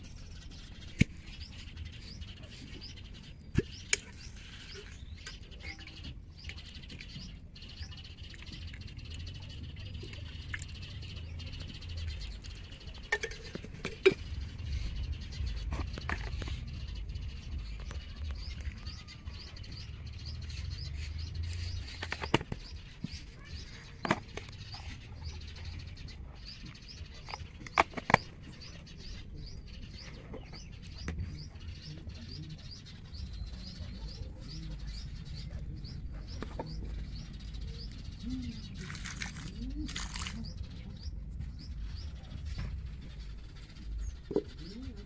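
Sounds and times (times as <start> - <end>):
small bird chirping: 0.0 - 45.0.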